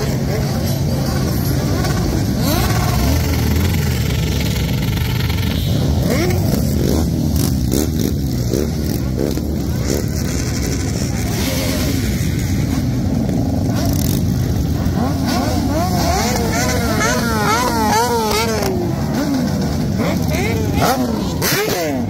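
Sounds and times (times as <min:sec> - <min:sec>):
motorcycles riding past: 0:00.0 - 0:22.0.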